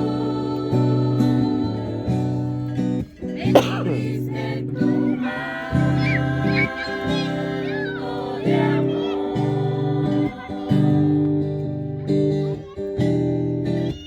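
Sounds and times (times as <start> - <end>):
voices singing along: 0.0 - 12.8
acoustic guitar strumming: 0.0 - 14.0.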